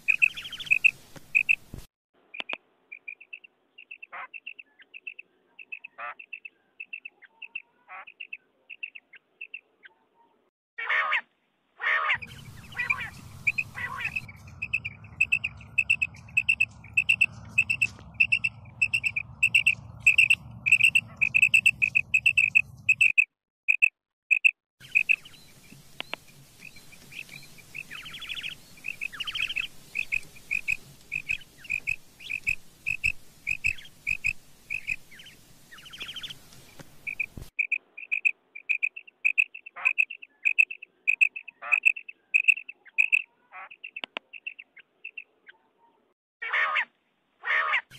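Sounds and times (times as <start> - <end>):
quail calling: 0.0 - 1.6, 2.4 - 9.6, 10.8 - 23.2, 24.4 - 36.4, 37.0 - 45.3, 46.4 - 47.9.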